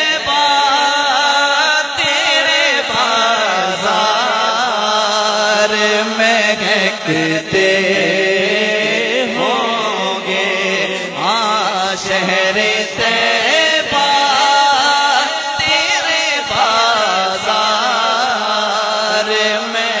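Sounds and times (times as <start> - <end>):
man singing devotional verse: 0.0 - 20.0.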